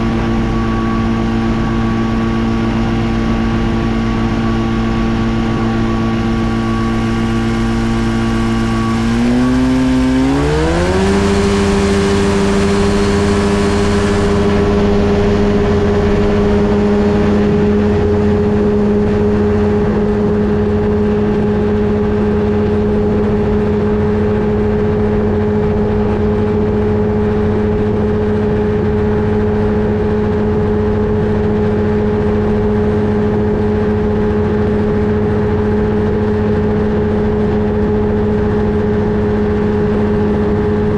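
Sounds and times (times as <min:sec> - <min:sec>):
two-stroke aircraft engine revving: 0:00.0 - 0:40.9.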